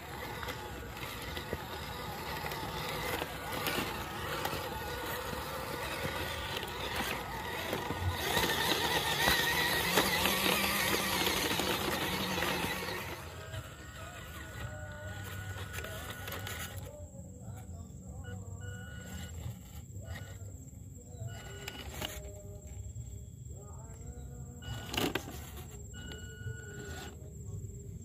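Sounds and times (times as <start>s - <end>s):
small motor and gearbox whining: 0.0s - 28.0s.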